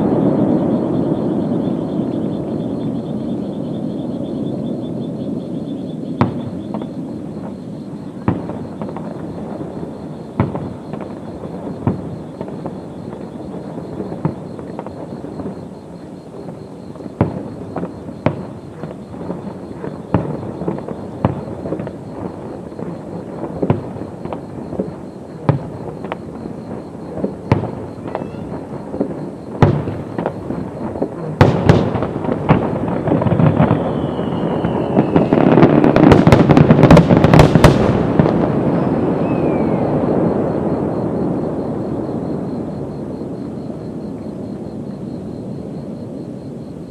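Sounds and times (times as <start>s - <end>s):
fireworks crackling: 0.0s - 4.7s, 5.3s - 46.9s
fireworks bangs: 0.0s - 46.0s.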